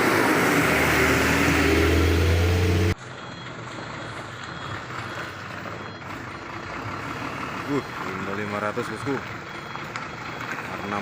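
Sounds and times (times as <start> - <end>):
diesel truck engine running: 0.0 - 11.0
road background noise: 0.0 - 11.0.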